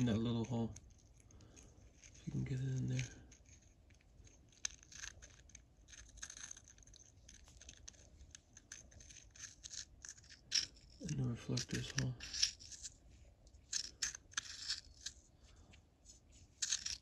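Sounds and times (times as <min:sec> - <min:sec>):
clicks and scrapes of small parts: 0:00.0 - 0:17.0.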